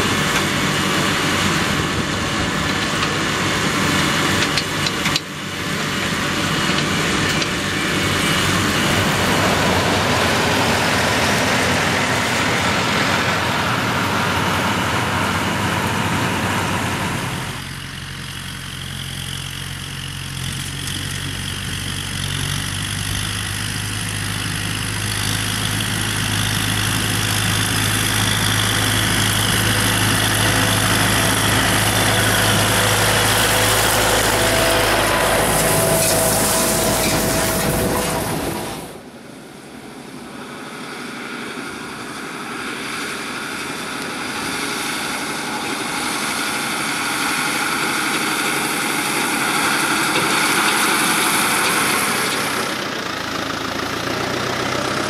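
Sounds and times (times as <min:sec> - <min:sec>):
diesel tractor engine: 0:00.0 - 0:55.0
round baler working: 0:00.0 - 0:55.0
tractor running: 0:00.0 - 0:55.0.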